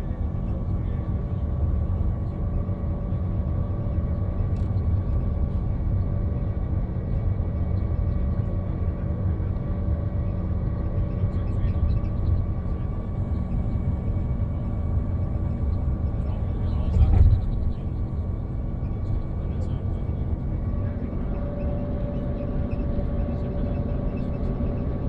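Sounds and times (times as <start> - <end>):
coach engine drone: 0.0 - 25.0
low road rumble: 0.0 - 25.0.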